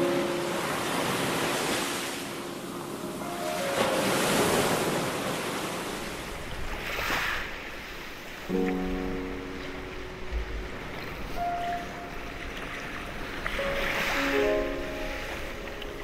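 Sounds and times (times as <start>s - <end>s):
sea waves washing: 0.0s - 16.0s.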